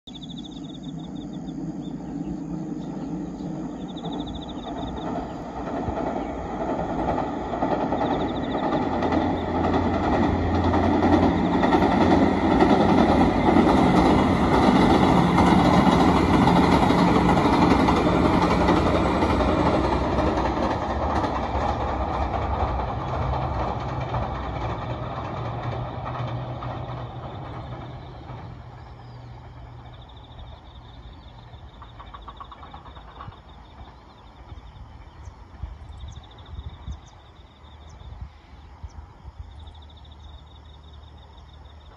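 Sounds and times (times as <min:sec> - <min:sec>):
diesel train engine: 0:00.1 - 0:41.9
train wheels on rails: 0:00.1 - 0:41.9.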